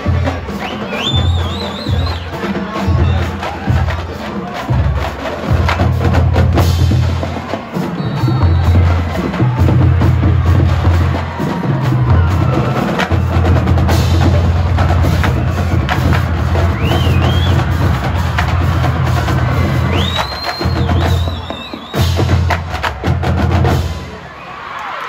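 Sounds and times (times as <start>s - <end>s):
snare and tenor drums: 0.0s - 24.2s.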